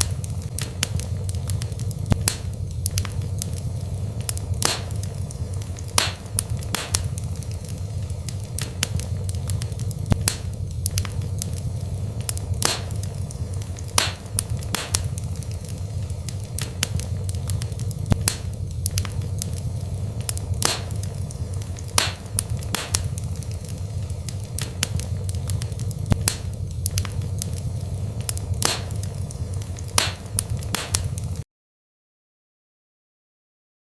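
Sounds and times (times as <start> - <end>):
fire rumbling: 0.0 - 31.4
wood crackling and popping: 0.0 - 31.4.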